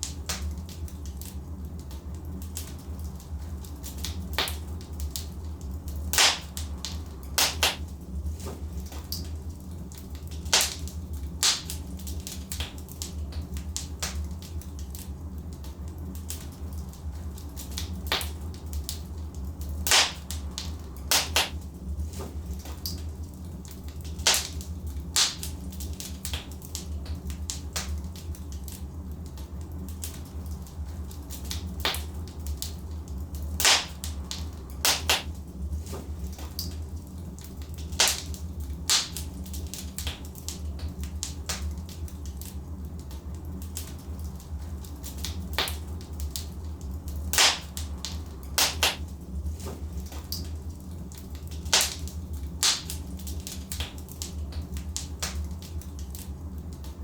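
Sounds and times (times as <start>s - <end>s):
logs burning in fireplace: 0.0s - 57.0s.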